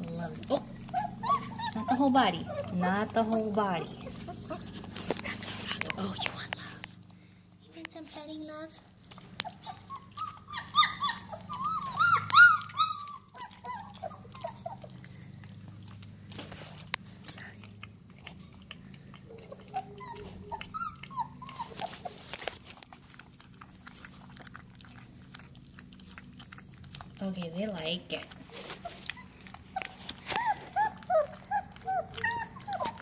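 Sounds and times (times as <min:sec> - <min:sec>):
puppies whining and squealing: 0:00.0 - 0:06.8, 0:09.0 - 0:17.5, 0:18.2 - 0:33.0
puppies eating wet clicks: 0:00.0 - 0:33.0.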